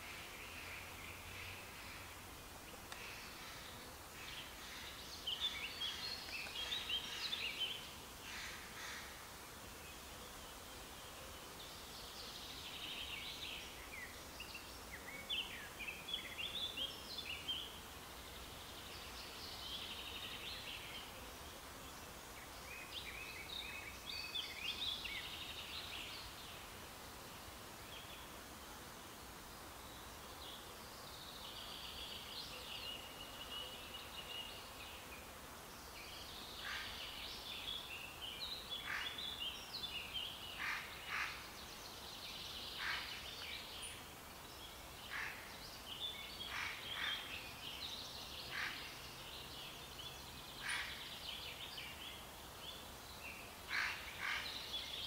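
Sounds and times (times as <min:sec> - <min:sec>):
faint outdoor hiss: 0:00.0 - 0:55.0
songbirds chirping: 0:00.0 - 0:55.0.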